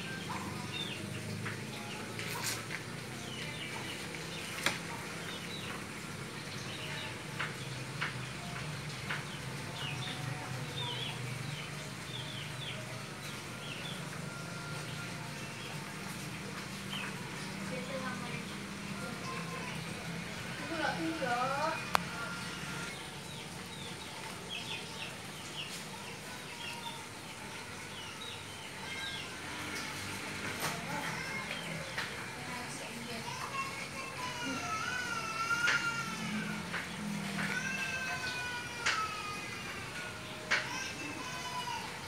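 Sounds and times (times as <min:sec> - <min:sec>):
small birds chirping: 0:00.0 - 0:41.8.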